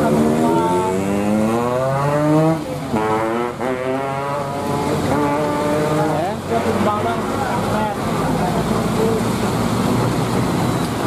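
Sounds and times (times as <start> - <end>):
vehicle engines revving hard: 0.0 - 11.0.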